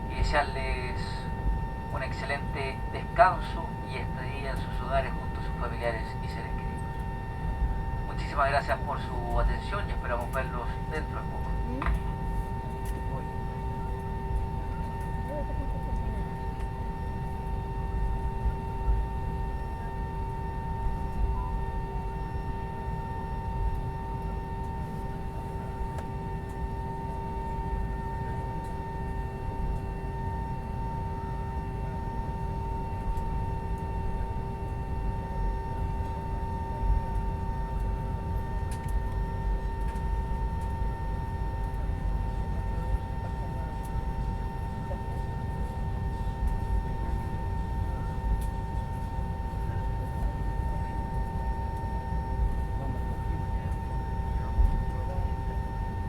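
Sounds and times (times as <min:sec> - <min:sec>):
jet engines whining at idle: 0:00.0 - 0:56.0.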